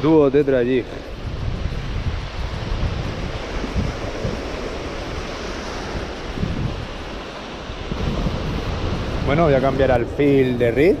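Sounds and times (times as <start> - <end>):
small waves breaking on beach: 0.0 - 11.0
wind buffeting microphone: 0.0 - 11.0.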